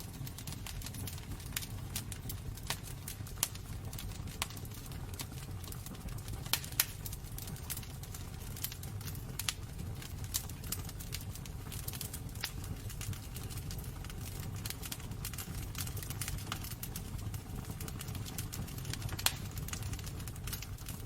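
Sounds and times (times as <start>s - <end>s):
fire crackling and popping: 0.0s - 21.0s
low rumble of flames: 0.0s - 21.0s.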